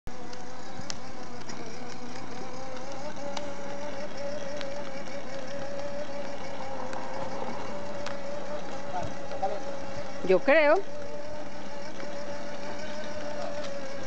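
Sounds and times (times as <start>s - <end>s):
electric toy motor whining: 0.1s - 14.0s.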